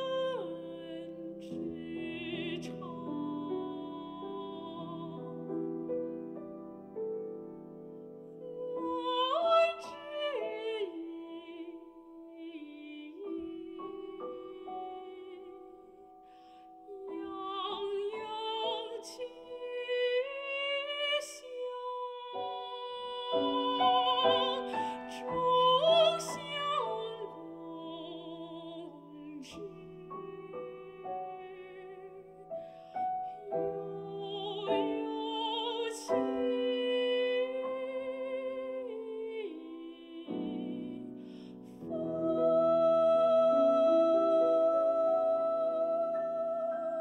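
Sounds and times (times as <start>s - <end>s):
woman singing with vibrato: 0.0s - 5.6s, 8.5s - 16.0s, 16.9s - 32.5s, 33.3s - 47.0s
grand piano: 0.0s - 47.0s.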